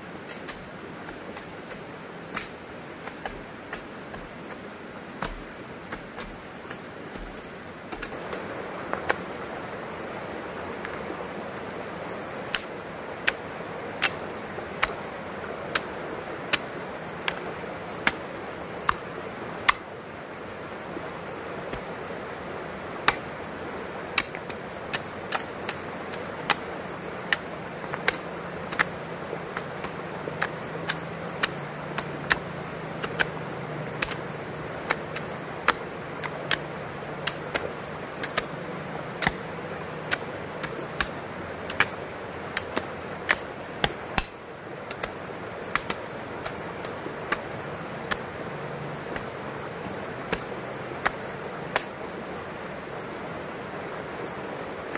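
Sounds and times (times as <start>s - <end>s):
faint insect chirring: 0.0s - 54.9s
outdoor hiss: 0.0s - 54.9s.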